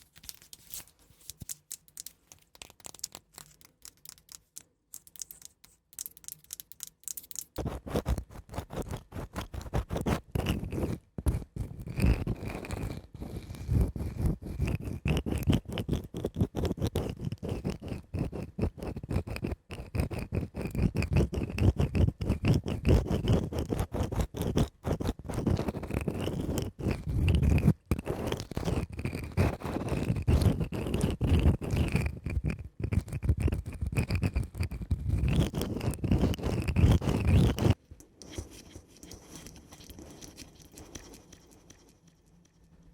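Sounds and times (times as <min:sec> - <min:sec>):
scratching and tapping on cork: 0:00.2 - 0:42.7.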